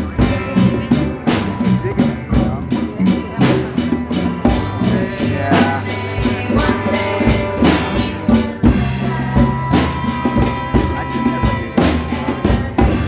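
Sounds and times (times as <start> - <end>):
drum strikes: 0.0 - 13.0
rock band playing: 0.0 - 13.0.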